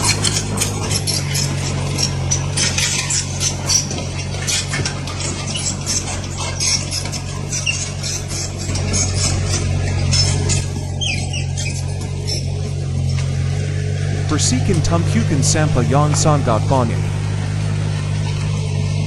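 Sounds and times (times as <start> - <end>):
heavy machine engine drone: 0.0 - 19.0.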